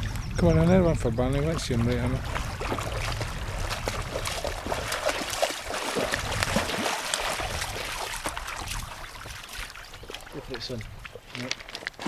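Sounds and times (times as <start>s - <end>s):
dogs splashing in water: 1.2s - 11.4s.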